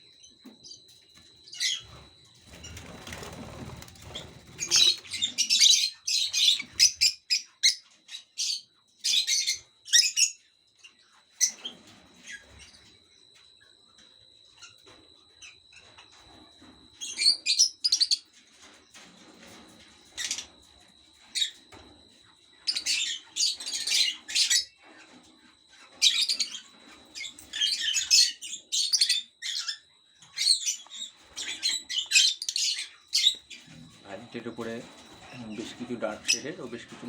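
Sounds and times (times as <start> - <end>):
bird chicks chirping: 0.0 - 37.0.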